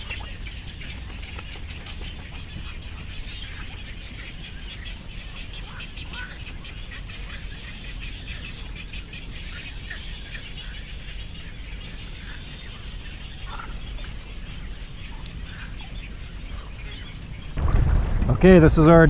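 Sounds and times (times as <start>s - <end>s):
birds chirping: 0.0s - 19.0s
steady low background noise: 0.0s - 19.0s.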